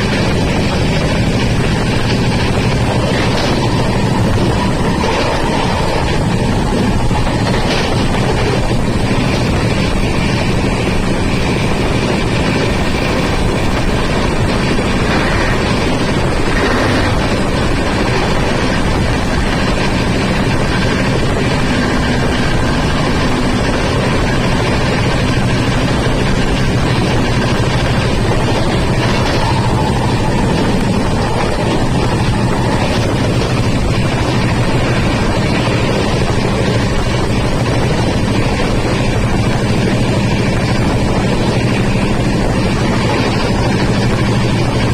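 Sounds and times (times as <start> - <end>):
low hum: 0.0 - 44.9
moving train rumble: 0.0 - 44.9.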